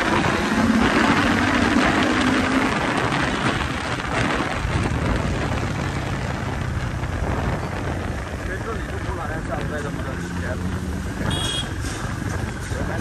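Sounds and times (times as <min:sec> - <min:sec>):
wind on microphone: 0:00.0 - 0:09.8, 0:10.4 - 0:13.0.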